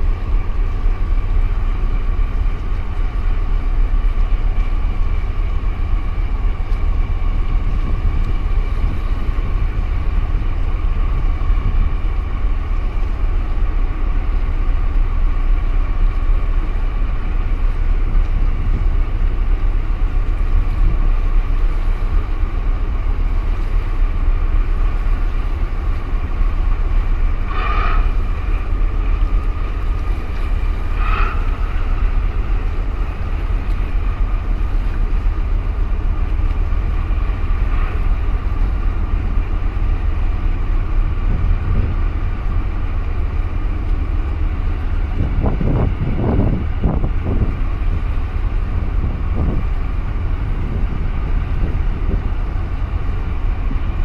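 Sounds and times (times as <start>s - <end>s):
diesel engines rumbling and whining: 0.0s - 54.0s.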